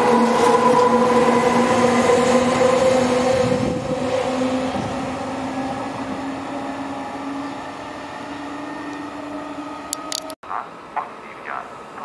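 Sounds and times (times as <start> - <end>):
electric train whine and rolling: 0.0 - 11.0.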